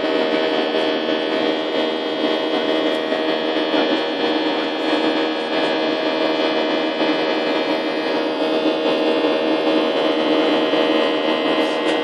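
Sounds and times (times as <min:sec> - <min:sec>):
jet engine and airflow drone: 0:00.0 - 0:12.0
steady humming tones: 0:00.0 - 0:12.0.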